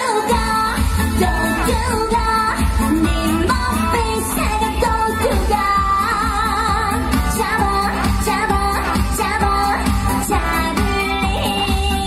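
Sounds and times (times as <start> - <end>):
backing track through stage speakers: 0.0 - 12.0
woman singing live: 0.0 - 12.0.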